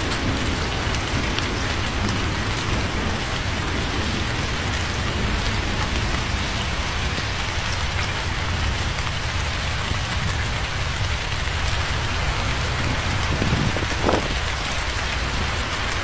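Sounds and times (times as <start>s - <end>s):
heavy rain hiss: 0.0s - 16.0s
rain drop ticks: 0.0s - 16.0s.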